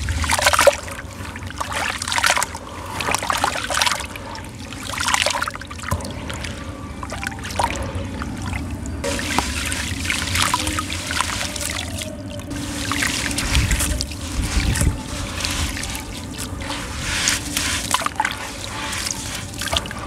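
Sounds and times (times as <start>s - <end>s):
sand trickling into water: 0.0s - 20.0s
water sloshing and splashing: 0.0s - 20.0s.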